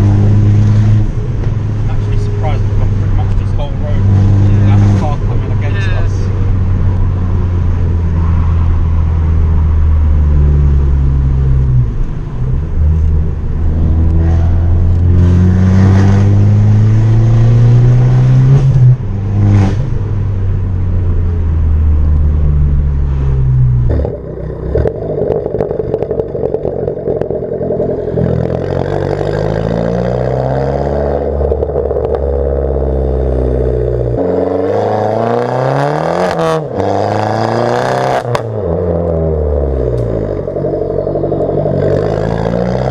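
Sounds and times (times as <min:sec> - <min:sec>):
car engine accelerating hard: 0:00.0 - 0:12.0, 0:12.8 - 0:20.3, 0:21.8 - 0:42.9
exhaust crack: 0:00.0 - 0:42.9.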